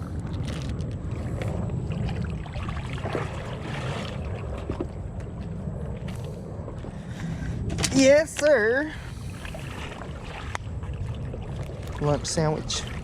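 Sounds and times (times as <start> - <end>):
water around a kayak: 0.0 - 13.0
wind on microphone: 0.0 - 13.0.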